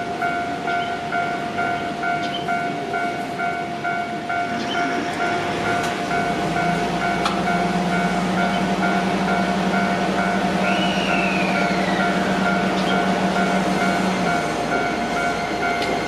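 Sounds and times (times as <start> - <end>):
electric train running: 0.0 - 16.0
level crossing warning bell: 0.0 - 16.0.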